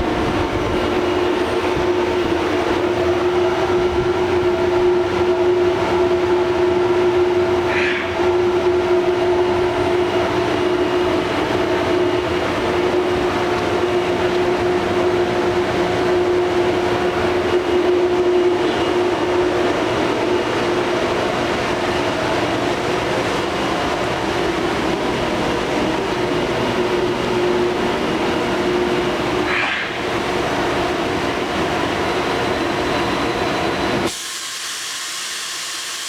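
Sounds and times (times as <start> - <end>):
machining center humming: 0.0 - 34.2.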